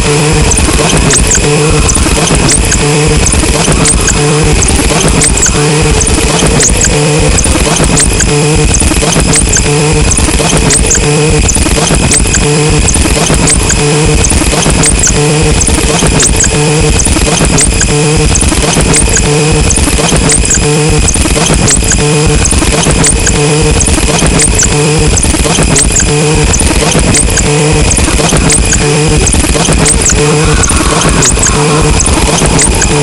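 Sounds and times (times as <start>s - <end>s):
harsh noise music: 0.0s - 33.0s
looped pulsing pattern: 0.0s - 33.0s
short high squeals: 0.0s - 33.0s.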